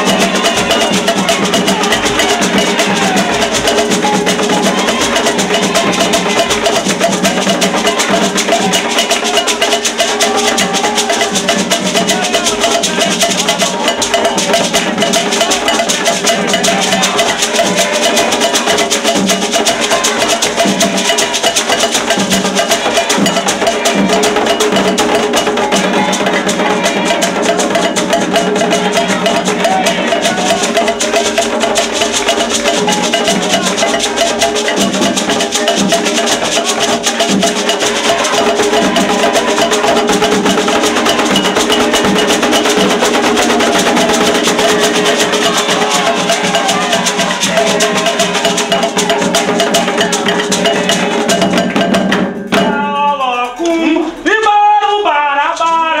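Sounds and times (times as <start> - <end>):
ringing bell: 0.0 - 52.8
hand drums playing: 0.0 - 56.0.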